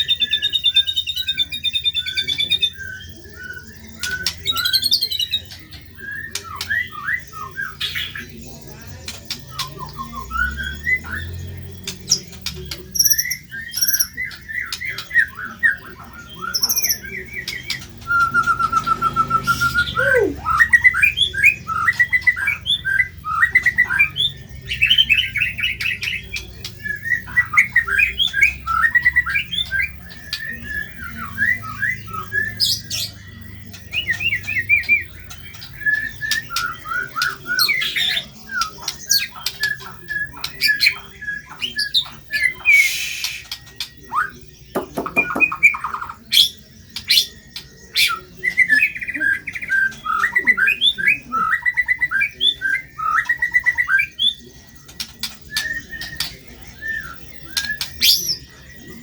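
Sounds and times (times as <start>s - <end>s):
bird singing: 0.0s - 59.0s
bird trill: 0.0s - 59.0s.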